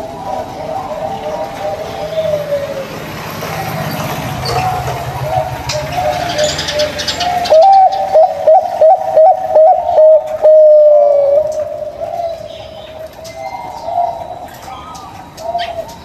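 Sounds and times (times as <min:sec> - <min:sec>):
doves cooing: 0:00.0 - 0:16.0
low background drone: 0:00.0 - 0:16.0.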